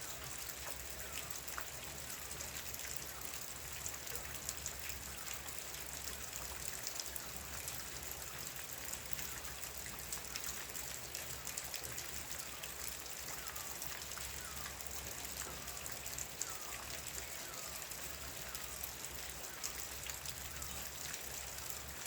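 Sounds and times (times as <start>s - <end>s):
steady rain falling: 0.0s - 22.0s
raindrops ticking: 0.1s - 22.0s.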